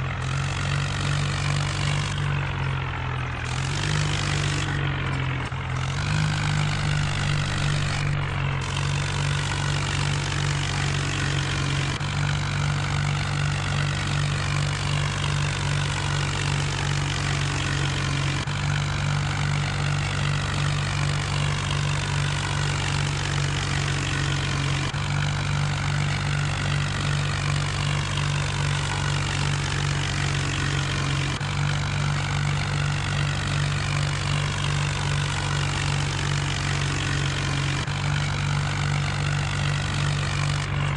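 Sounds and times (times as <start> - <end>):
tractor engine droning: 0.0 - 40.9.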